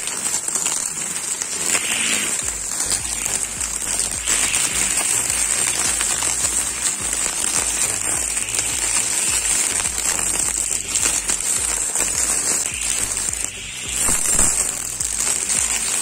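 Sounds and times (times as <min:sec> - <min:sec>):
electric string trimmer running: 0:00.0 - 0:16.0
leaves crackling: 0:00.0 - 0:16.0
background music: 0:01.6 - 0:16.0.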